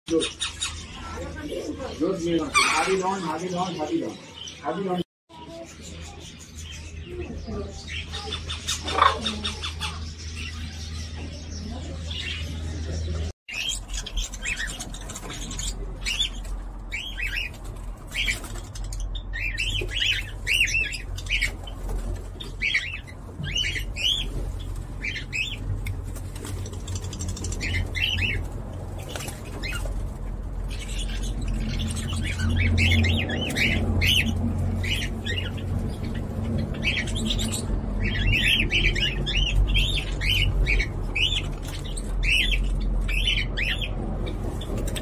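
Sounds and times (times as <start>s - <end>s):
birds chirping: 0.1s - 45.0s.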